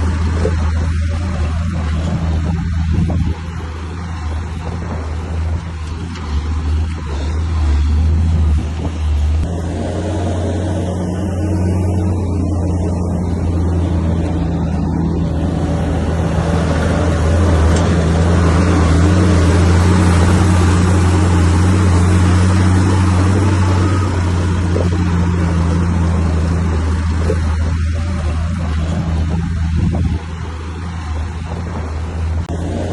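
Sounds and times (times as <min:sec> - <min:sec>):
diesel engine humming: 0:00.0 - 0:32.9
harsh rushing noise: 0:00.0 - 0:32.9.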